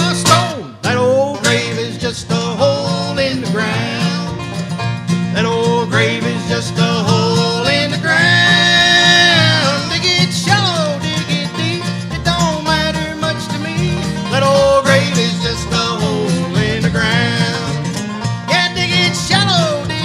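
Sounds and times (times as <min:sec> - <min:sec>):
banjo: 0:00.0 - 0:20.0
bass line: 0:00.0 - 0:20.0
guitar: 0:00.0 - 0:20.0.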